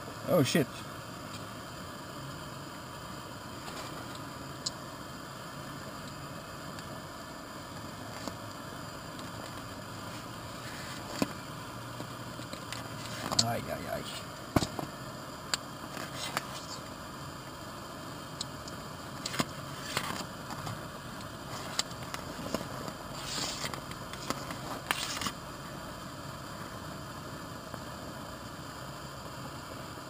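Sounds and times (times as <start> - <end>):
steady low hiss: 0.0 - 30.0.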